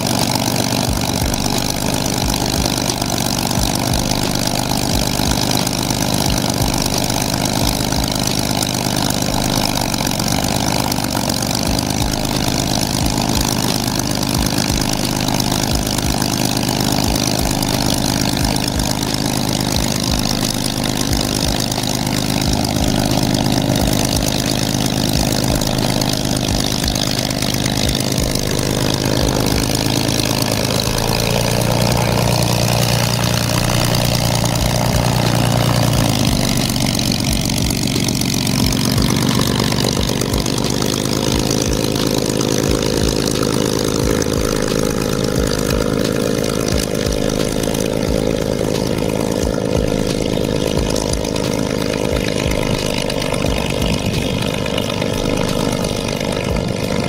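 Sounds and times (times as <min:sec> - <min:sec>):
aircraft engine idling: 0:00.0 - 0:57.0.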